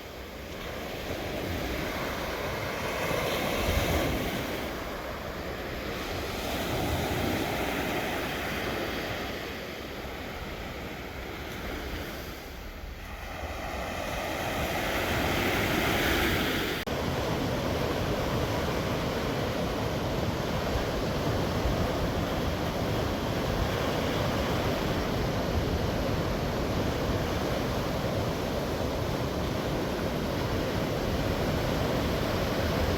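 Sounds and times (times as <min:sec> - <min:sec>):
sea waves breaking on shore: 0:00.0 - 0:32.9
wind rumbling on microphone: 0:00.0 - 0:32.9.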